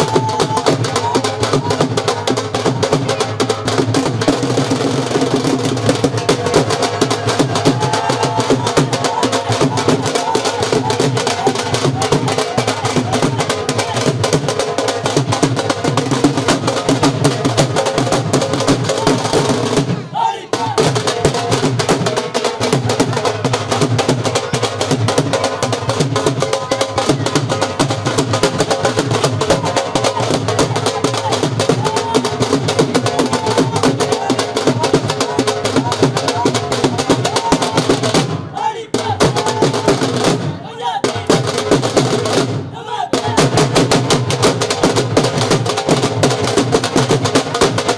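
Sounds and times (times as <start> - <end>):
fast dhol drumming: 0.0 - 47.9.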